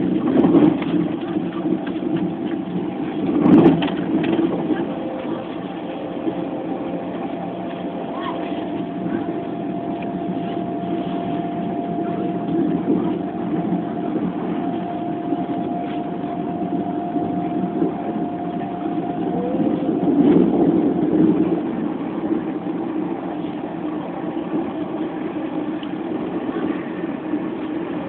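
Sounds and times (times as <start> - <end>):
thin steady hum: 0.0 - 28.0
train running gear rumbling on track: 0.0 - 28.0.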